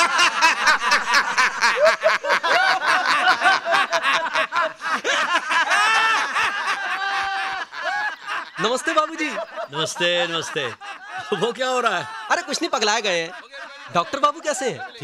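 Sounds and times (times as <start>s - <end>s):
men laughing loudly: 0.0s - 15.0s.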